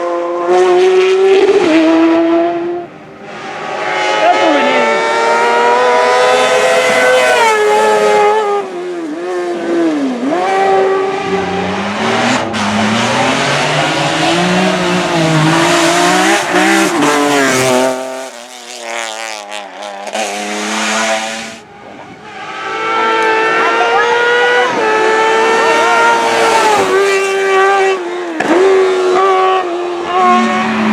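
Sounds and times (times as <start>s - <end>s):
racing car engine revving: 0.0s - 30.9s.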